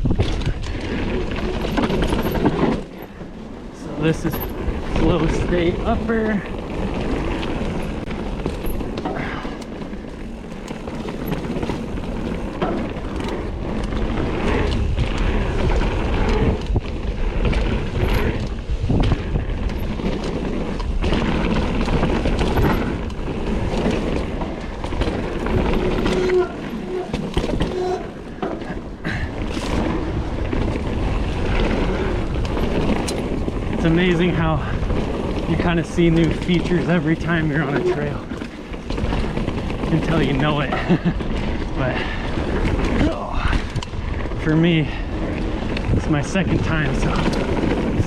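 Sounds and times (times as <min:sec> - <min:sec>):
bike knocking and rattling: 0:00.0 - 0:48.0
rush of tyres and wind: 0:00.0 - 0:48.0.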